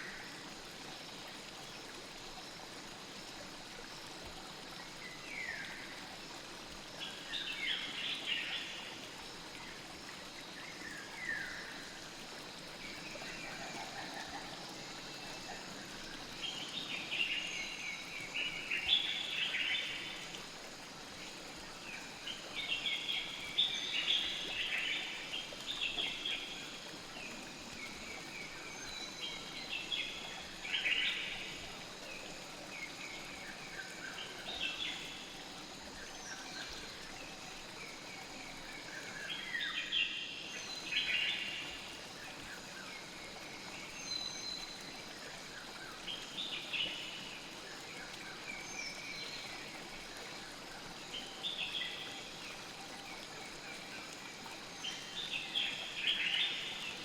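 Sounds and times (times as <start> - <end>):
flowing river water: 0.0 - 57.0.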